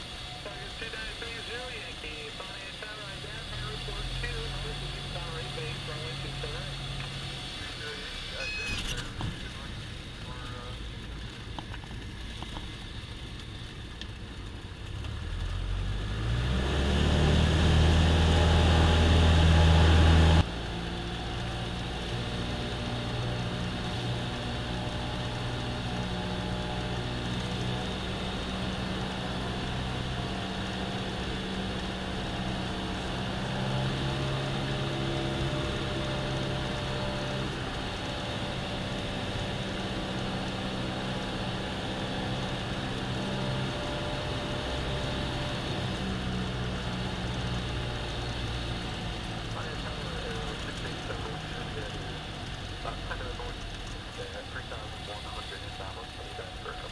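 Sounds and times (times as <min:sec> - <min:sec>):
propeller plane engine drone: 0:00.0 - 0:56.9.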